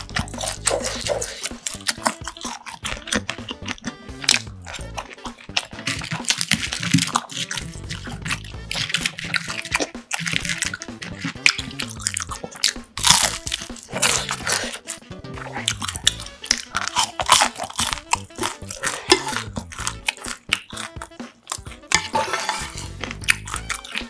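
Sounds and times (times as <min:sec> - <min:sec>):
crunching and chewing of fried food: 0:00.0 - 0:24.0
soft background music: 0:00.0 - 0:24.0.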